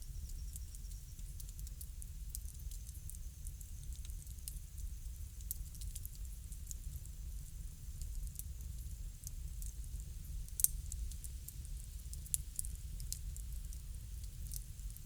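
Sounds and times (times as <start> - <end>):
bonfire crackling: 0.4 - 15.0.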